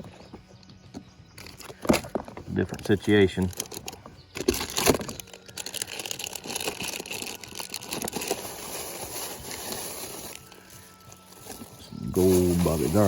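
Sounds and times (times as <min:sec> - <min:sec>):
fishing tackle clicks and rustles: 0:00.0 - 0:13.0.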